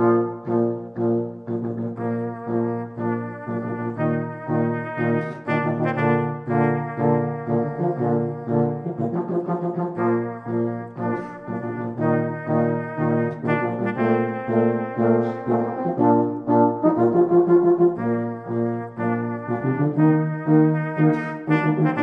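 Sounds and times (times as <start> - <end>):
brass band playing a march: 0.0 - 22.0.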